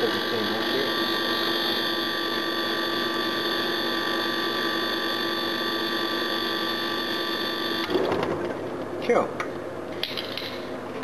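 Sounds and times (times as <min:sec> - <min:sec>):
fridge compressor humming: 0:00.0 - 0:11.0.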